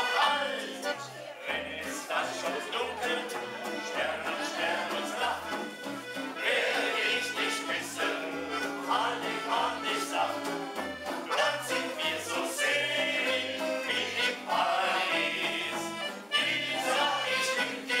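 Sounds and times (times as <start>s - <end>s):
accordion ensemble playing: 0.0s - 18.0s.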